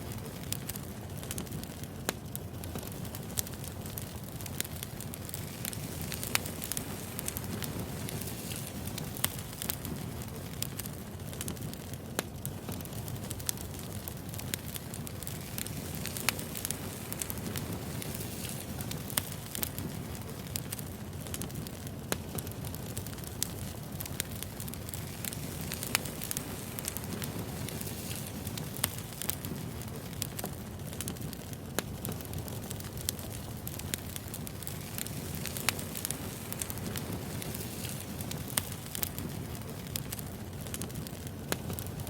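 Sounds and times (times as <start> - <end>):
logs crackling and popping: 0.0 - 42.0
low rumble of flames: 0.0 - 42.0.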